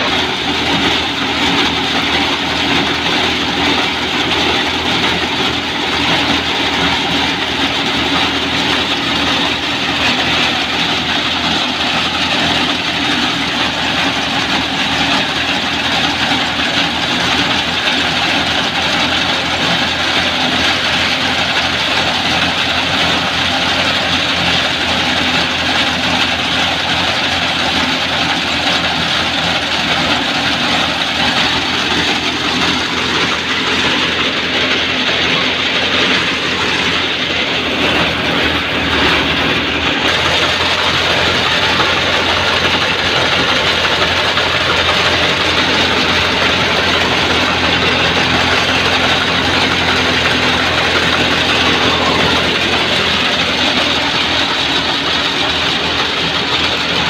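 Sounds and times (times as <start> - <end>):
threshing drum and blower noise: 0.0 - 57.0
tractor engine hum: 0.0 - 57.0.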